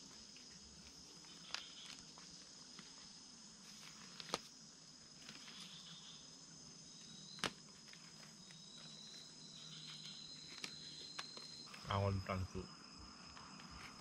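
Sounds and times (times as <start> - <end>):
insects high-pitched trilling: 0.0 - 14.0
lower insect trill: 0.0 - 14.0.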